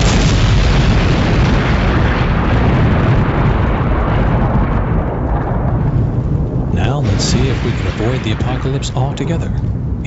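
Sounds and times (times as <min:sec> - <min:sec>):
deep rumbling boom: 0:00.0 - 0:10.0.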